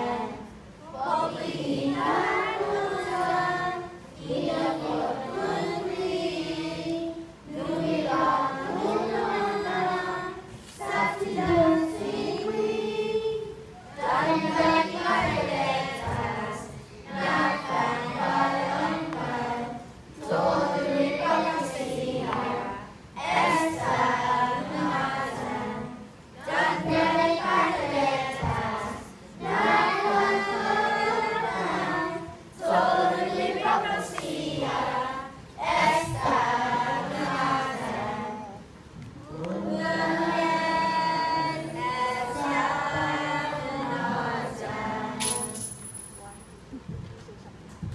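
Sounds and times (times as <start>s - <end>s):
children's choir singing: 0.0s - 45.6s.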